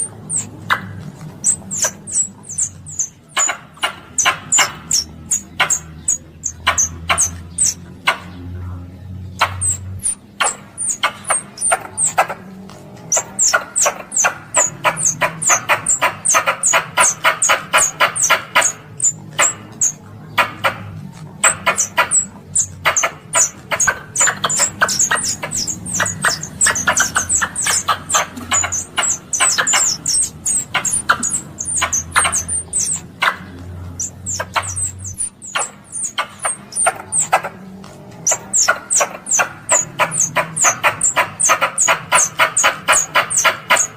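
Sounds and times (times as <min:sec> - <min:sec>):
squirrel chirping: 0:00.0 - 0:43.9
steady low hum: 0:00.0 - 0:43.9.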